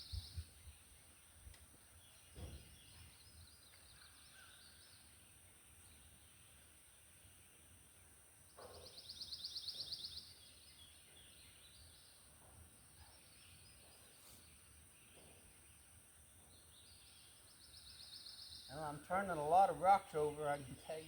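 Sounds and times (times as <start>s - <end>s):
quiet outdoor ambience: 0.0s - 21.0s.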